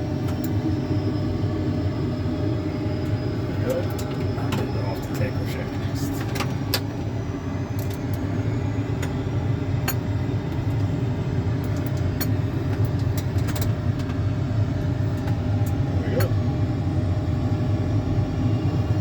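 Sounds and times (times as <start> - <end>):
simulated engine and airflow rumble: 0.0 - 19.0.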